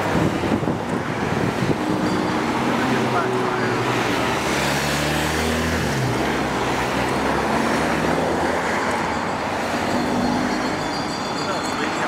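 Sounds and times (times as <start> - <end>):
car engine and tyre noise: 0.0 - 12.0
vehicles passing on road: 0.0 - 12.0.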